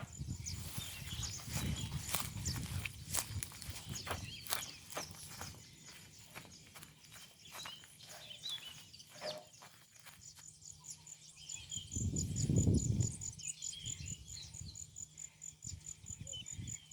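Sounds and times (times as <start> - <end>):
bird calls: 0.0 - 16.9
cricket chirping: 0.0 - 16.9.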